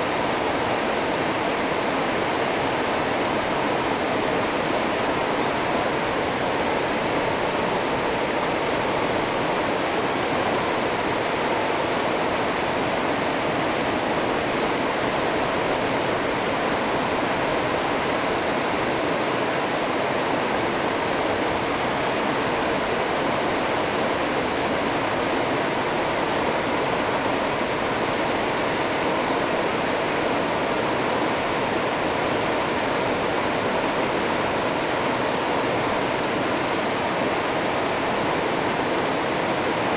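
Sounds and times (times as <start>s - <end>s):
river rapids rushing over rocks: 0.0s - 39.9s.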